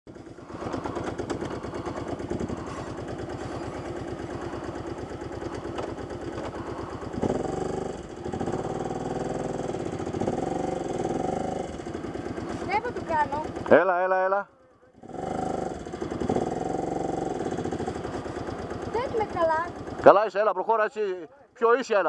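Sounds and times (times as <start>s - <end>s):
quad bike engine throbbing: 0.1s - 20.4s.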